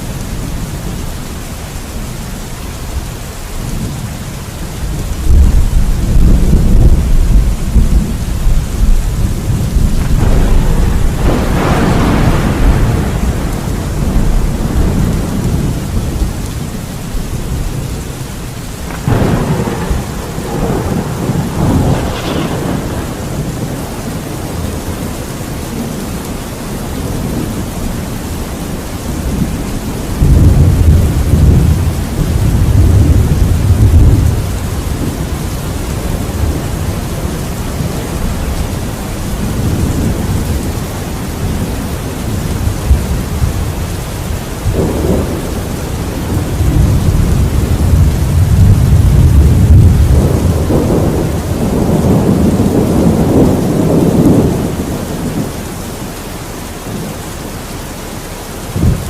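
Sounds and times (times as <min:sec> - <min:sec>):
low rumble of thunder: 0:00.0 - 0:59.0
steady rain falling: 0:00.0 - 0:59.0
thunder cracking: 0:05.2 - 0:26.1, 0:29.0 - 0:55.7, 0:58.7 - 0:59.0.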